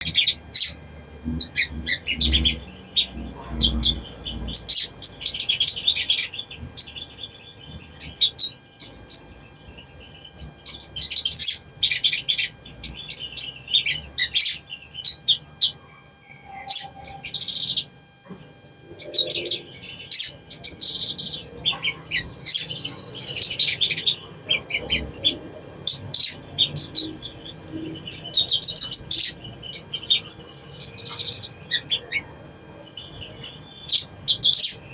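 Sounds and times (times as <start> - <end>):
songbird chirping and trilling: 0.0 - 34.9.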